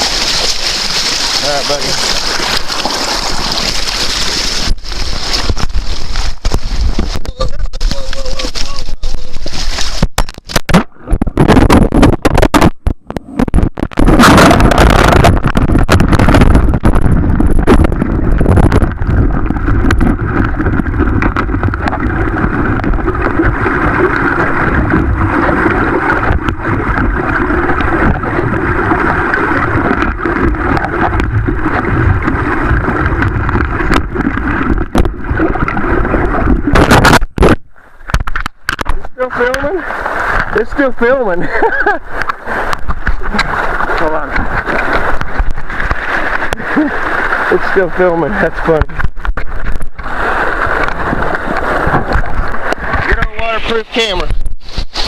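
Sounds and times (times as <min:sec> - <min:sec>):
underwater river rushing: 0:00.0 - 0:55.0.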